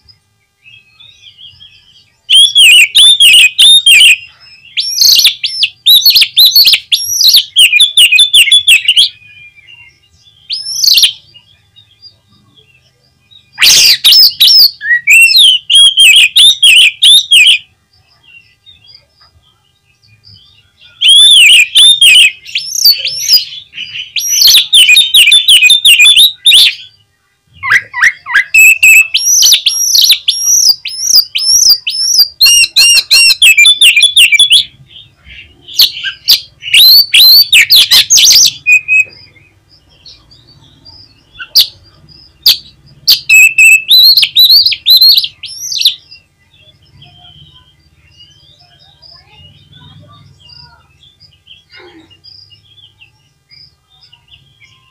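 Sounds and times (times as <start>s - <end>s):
songbird singing whistled notes: 0.0s - 54.9s.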